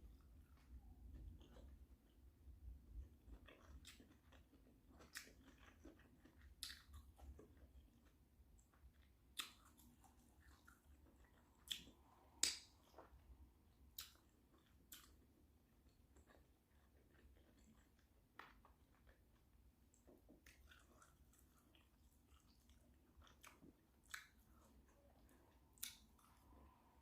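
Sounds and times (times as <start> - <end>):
person chewing: 0.1 - 27.0.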